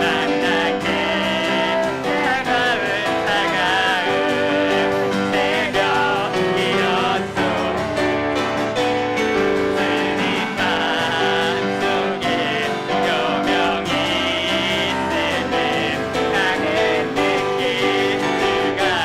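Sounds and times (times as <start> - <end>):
group singing worship song: 0.0 - 19.0
piano accompaniment: 0.0 - 19.0.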